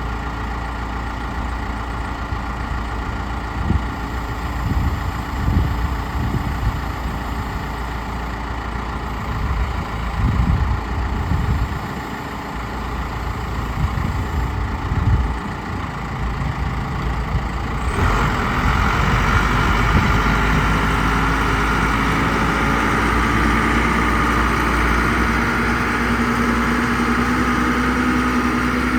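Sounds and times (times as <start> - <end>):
diesel backhoe engine: 0.0 - 28.9.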